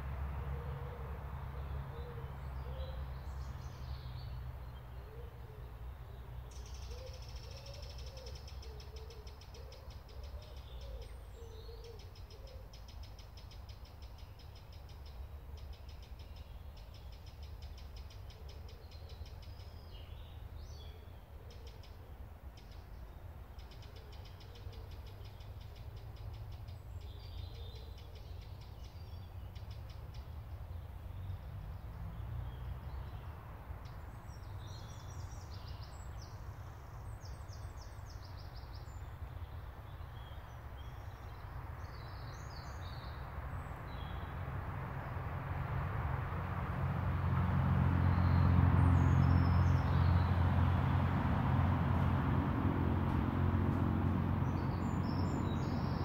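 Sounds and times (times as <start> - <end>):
songbirds trilling: 0.4 - 45.2, 51.9 - 56.0.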